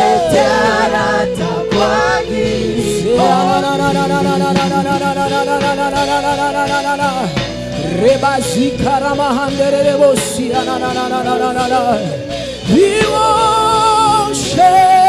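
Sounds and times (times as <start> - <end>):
instrumental backing music: 0.0 - 15.0
voices singing with vibrato: 0.0 - 15.0.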